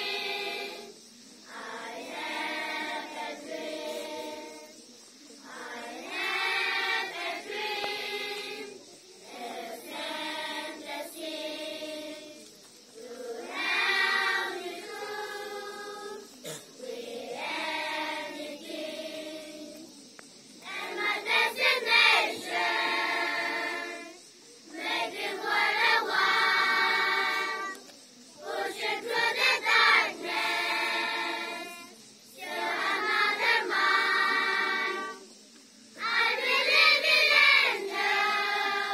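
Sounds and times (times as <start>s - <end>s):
children's choir singing: 0.0s - 20.0s, 20.6s - 38.9s.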